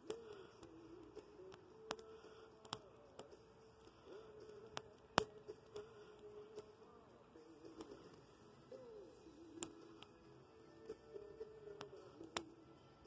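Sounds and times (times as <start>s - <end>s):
wood fire crackling and popping: 0.0s - 8.9s, 9.5s - 10.2s, 10.8s - 12.6s.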